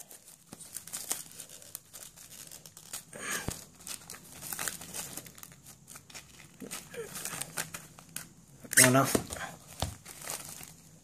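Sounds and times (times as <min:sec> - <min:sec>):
cellophane wrap crinkling and tearing: 0:00.0 - 0:11.0.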